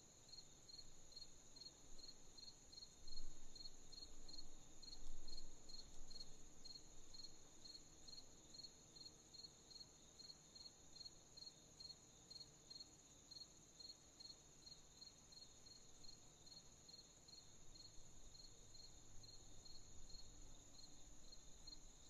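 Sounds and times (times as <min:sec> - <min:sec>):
crickets chirping: 0:00.1 - 0:22.0.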